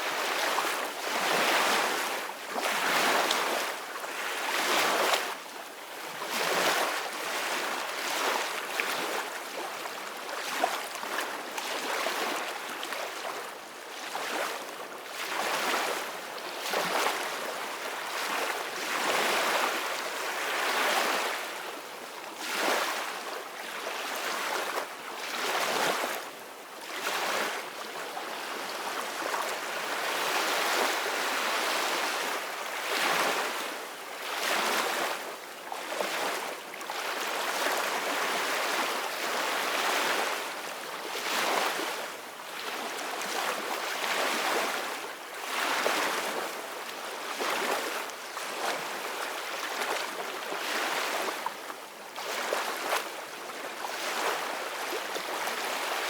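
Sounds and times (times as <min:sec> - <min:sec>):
wind: 0:00.0 - 0:56.0.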